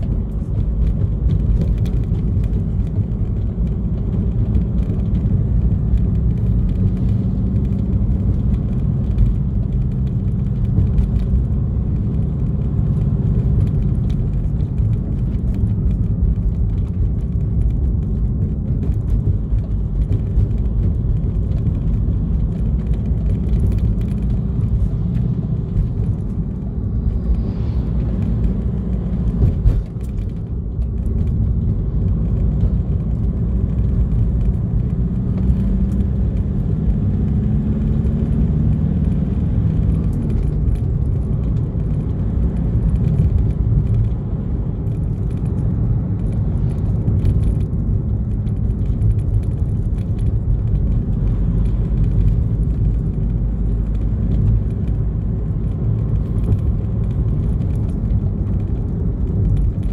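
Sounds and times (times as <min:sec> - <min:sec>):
faint rattles and clicks: 0:00.0 - 0:59.9
vehicle engine and tyre rumble: 0:00.0 - 0:59.9.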